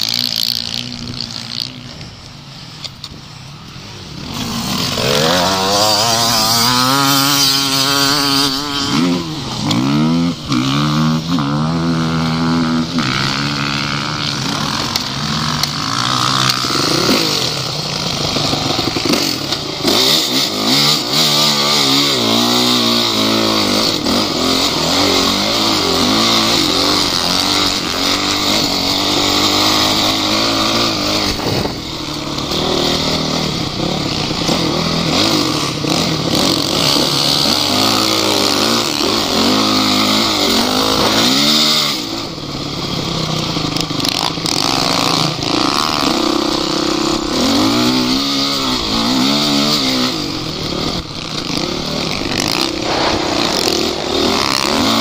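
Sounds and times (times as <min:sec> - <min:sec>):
off-road vehicle engines revving: 0:00.0 - 0:55.0.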